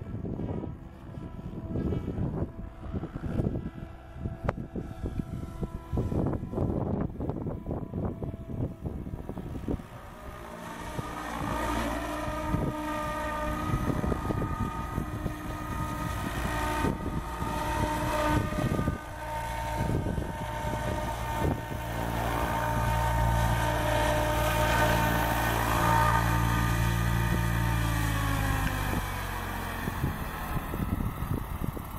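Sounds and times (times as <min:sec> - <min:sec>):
deep rotor hum: 0:00.0 - 0:31.9
rc helicopter motor whining: 0:00.0 - 0:31.9.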